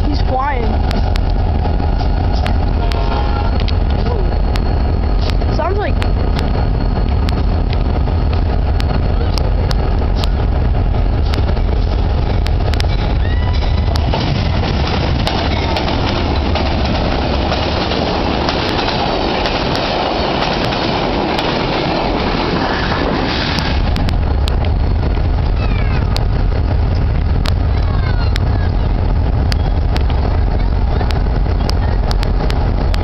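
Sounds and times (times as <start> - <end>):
train rumbling on rails: 0.0 - 33.0
wheels clicking over rail joints: 0.0 - 33.0.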